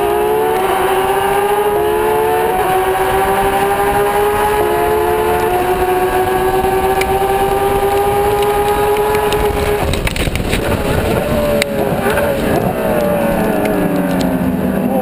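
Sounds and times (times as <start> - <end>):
engine crackles and pops: 0.0 - 15.0
race car engine at full throttle: 0.0 - 15.0.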